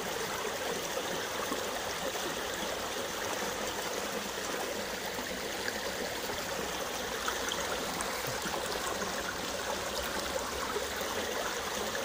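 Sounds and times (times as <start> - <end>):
water rushing from pipes: 0.0 - 12.0.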